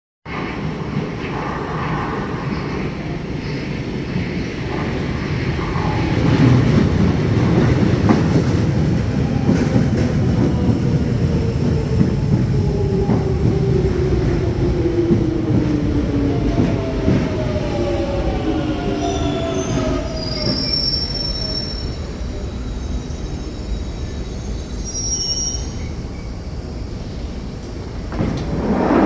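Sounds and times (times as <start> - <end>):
train wheels rumbling and clattering: 0.3 - 29.0.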